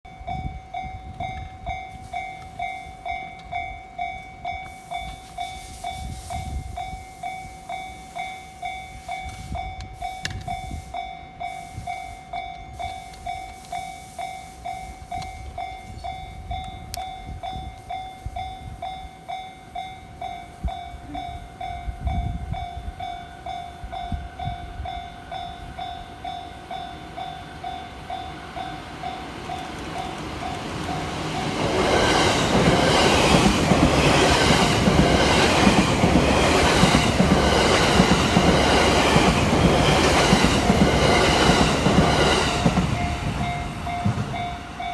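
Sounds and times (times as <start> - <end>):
level-crossing warning bell: 0.0 - 44.9
oncoming train noise: 0.0 - 44.9.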